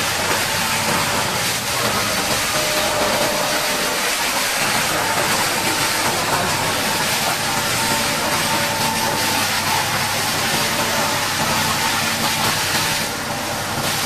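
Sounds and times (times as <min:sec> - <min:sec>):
high-pressure water jet spraying: 0:00.0 - 0:14.0.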